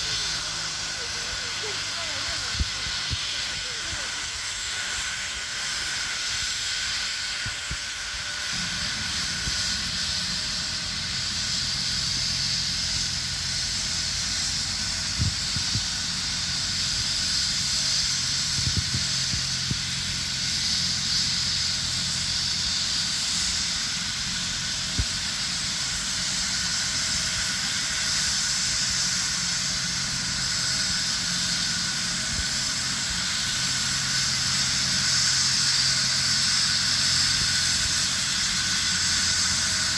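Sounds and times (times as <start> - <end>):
helicopter turbine engines: 0.0 - 39.9.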